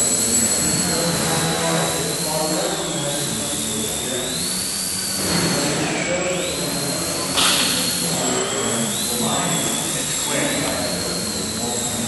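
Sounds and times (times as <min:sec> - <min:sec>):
model airplane motor whining: 0:00.0 - 0:12.0.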